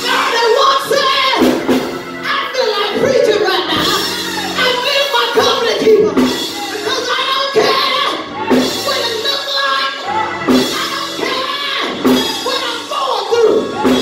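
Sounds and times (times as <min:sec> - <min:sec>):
instrumental backing music: 0:00.0 - 0:14.0.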